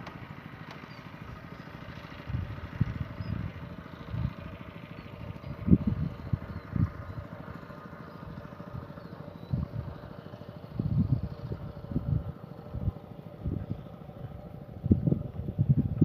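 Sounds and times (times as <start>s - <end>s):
steady mechanical hum: 0.0s - 16.0s
wind buffeting microphone: 2.1s - 7.5s, 8.3s - 16.0s.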